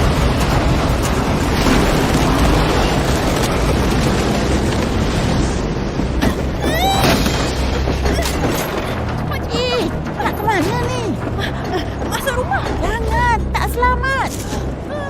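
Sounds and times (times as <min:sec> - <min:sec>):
rumbling rush of tornado wind: 0:00.0 - 0:13.0.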